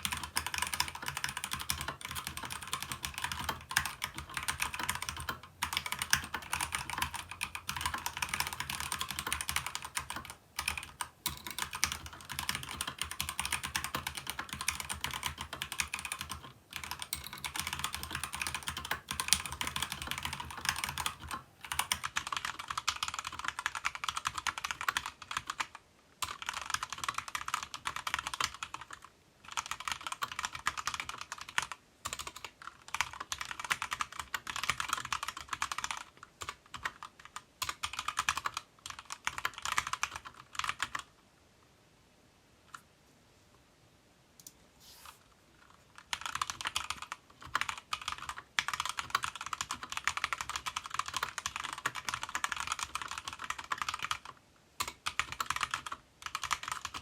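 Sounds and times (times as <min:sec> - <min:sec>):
mechanical keyboard typing: 0:00.0 - 0:41.1, 0:45.6 - 0:57.0.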